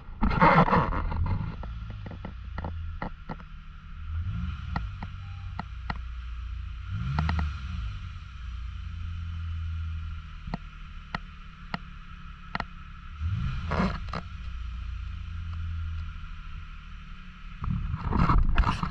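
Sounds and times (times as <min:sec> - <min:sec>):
car engine humming: 0:00.0 - 0:18.9.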